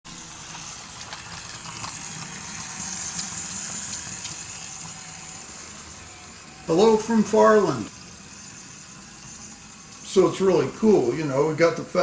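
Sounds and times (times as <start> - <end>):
small electric motor whirring: 0.1 - 11.8
steady low hum: 0.1 - 12.0.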